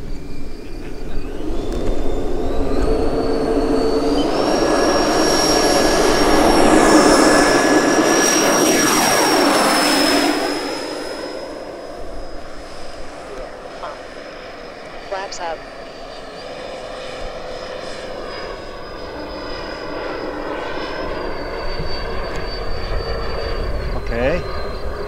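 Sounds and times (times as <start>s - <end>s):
electric ducted fans whining: 0.0s - 25.0s.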